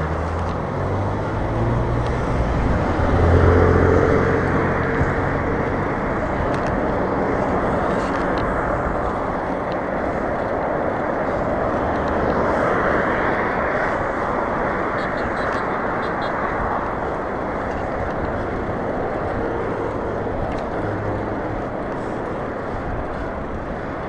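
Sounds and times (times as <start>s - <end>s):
passing car engine humming: 0.0s - 23.6s
wind rushing over microphone: 0.0s - 24.0s.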